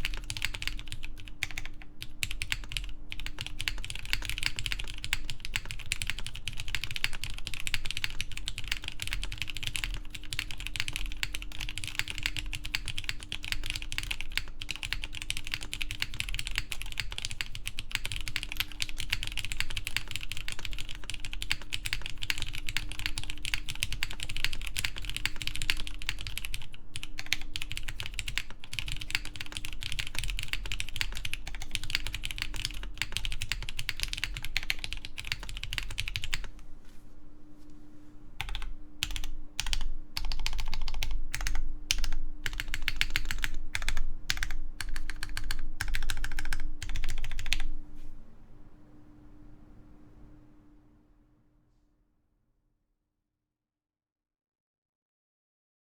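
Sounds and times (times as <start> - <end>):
fast typing on mechanical keyboard: 0.0 - 36.5, 38.4 - 47.7.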